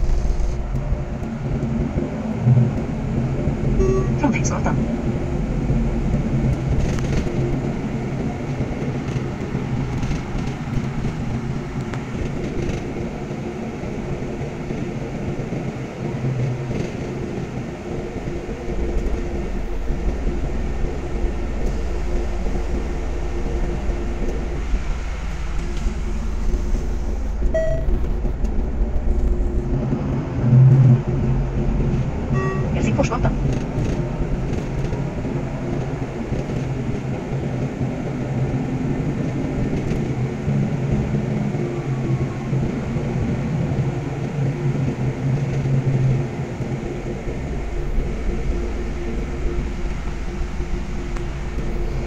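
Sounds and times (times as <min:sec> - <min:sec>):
bus engine and road rumble: 0:00.0 - 0:52.0.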